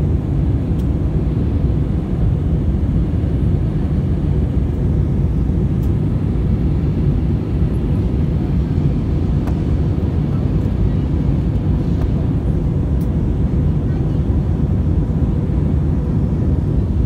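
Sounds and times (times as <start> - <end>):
jet engines roaring in cabin: 0.0 - 17.0.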